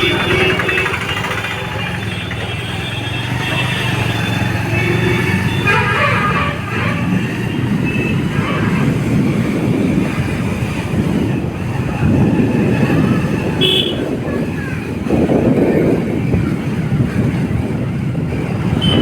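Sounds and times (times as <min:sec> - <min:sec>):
motorcycle engine: 0:00.0 - 0:07.6, 0:09.4 - 0:19.0
road and wind noise: 0:00.0 - 0:19.0.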